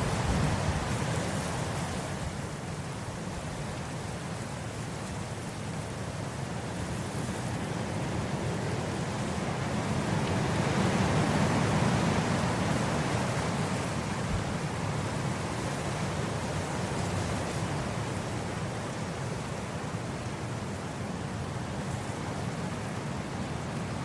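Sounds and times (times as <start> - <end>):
wind blowing across grass: 0.0 - 24.0.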